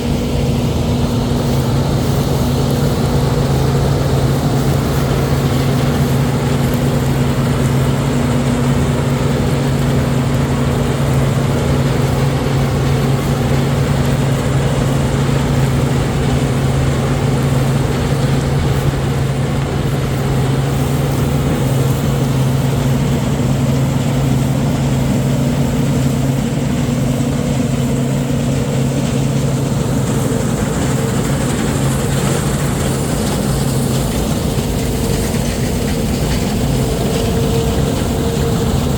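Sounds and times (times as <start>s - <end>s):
farm machinery engine droning: 0.0s - 38.9s.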